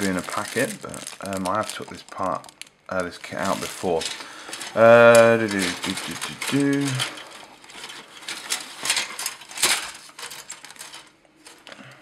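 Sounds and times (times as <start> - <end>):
plastic parts clicking and rattling: 0.0 - 12.0.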